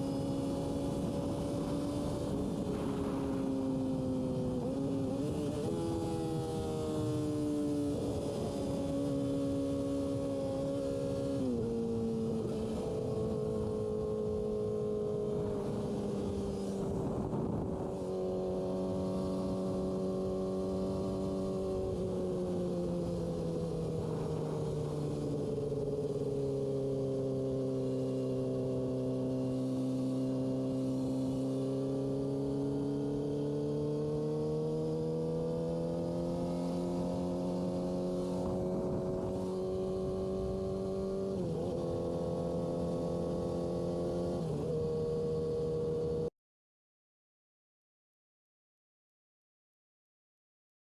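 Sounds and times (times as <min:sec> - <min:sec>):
motorcycle engine running: 0:00.0 - 0:46.2.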